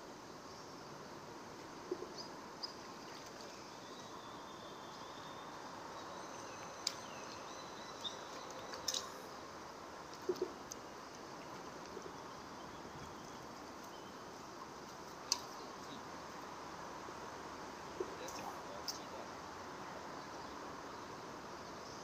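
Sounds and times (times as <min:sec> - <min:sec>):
riverside background noise: 0:00.0 - 0:22.0.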